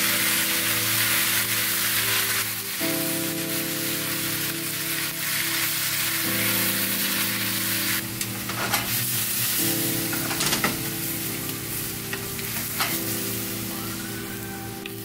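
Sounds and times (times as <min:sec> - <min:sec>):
meat and greens sizzling in a pan: 0:00.0 - 0:15.0.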